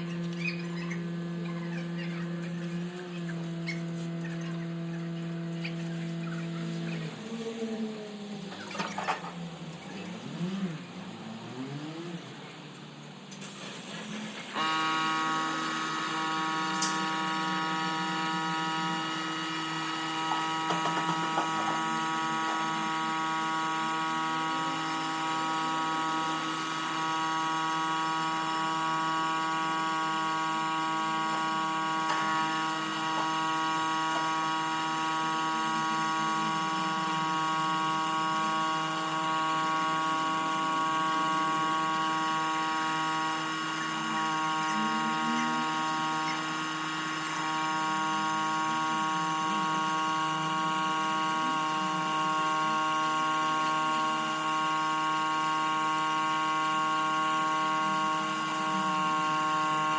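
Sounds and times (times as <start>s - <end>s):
electric motor whining: 0.0s - 12.7s, 13.4s - 59.9s.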